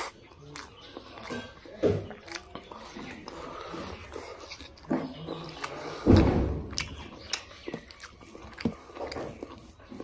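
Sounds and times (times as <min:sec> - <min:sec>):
close chewing with mouth clicks: 0:00.0 - 0:10.0.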